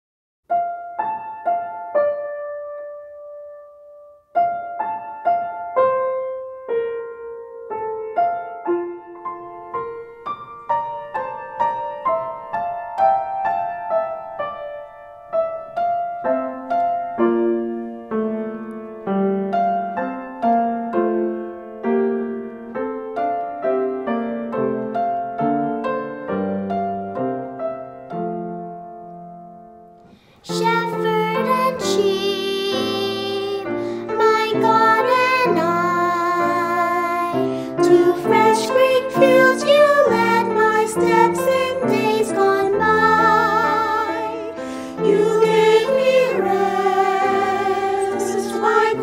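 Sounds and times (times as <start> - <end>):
solo grand piano playing: 0.5 - 49.0.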